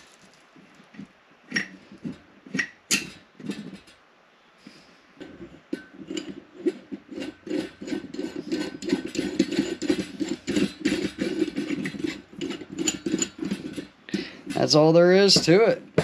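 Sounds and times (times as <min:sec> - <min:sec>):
metal handle scraping and knocking: 0:00.0 - 0:04.0, 0:05.2 - 0:16.0.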